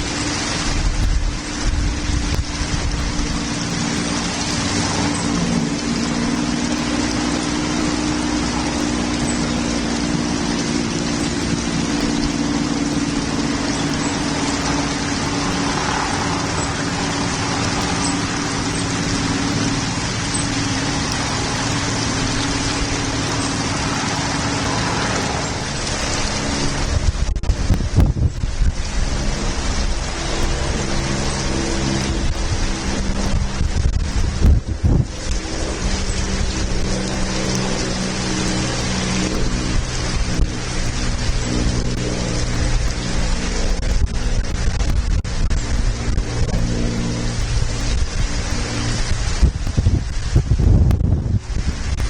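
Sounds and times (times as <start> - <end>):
heavy rain falling: 0.0 - 52.0
low rumble: 0.0 - 52.0.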